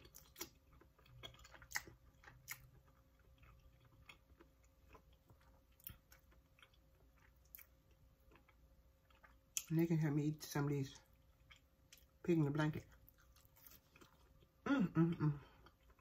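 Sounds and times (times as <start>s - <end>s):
quiet chewing: 0.0s - 9.7s, 11.0s - 12.2s, 12.8s - 16.0s.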